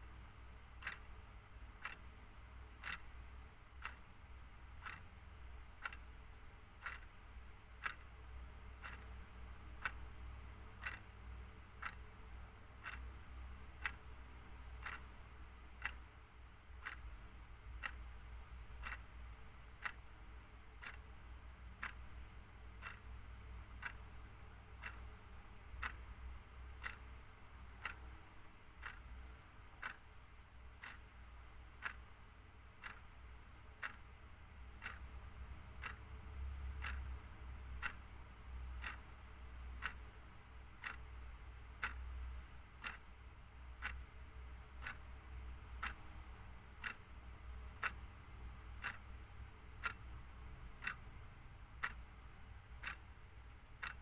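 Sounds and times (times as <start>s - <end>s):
clock ticking: 0.0s - 54.0s
faint low hum: 0.0s - 54.0s.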